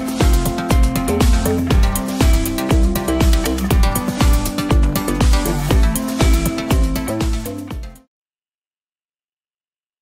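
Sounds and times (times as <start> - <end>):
electronic music with kick drum: 0.0 - 8.1.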